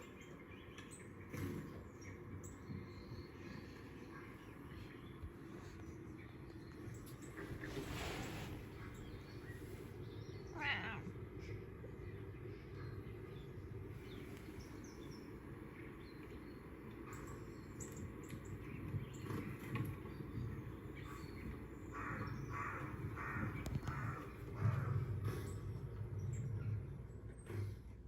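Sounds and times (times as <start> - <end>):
birds calling: 0.0 - 27.9
steady low hum: 0.0 - 28.0.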